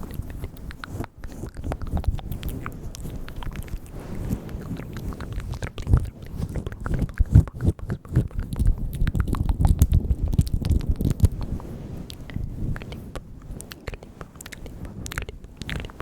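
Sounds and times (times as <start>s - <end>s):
wet mouth clicks and smacks: 0.0s - 16.0s.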